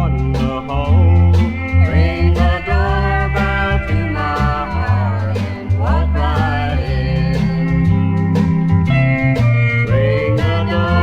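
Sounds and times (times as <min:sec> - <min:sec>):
person singing: 0:00.0 - 0:08.0, 0:09.8 - 0:11.0
steady bass notes: 0:00.0 - 0:11.0.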